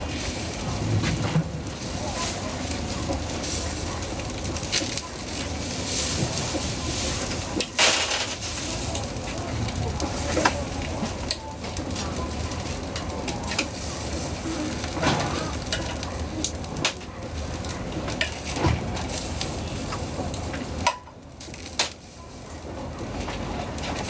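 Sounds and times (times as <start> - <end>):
food frying with sizzle: 0.0 - 24.0.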